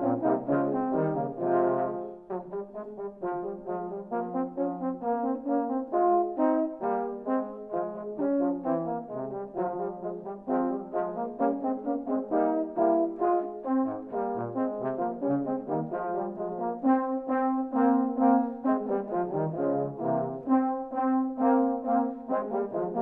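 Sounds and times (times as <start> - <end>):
euphonium quartet playing: 0.0 - 23.0.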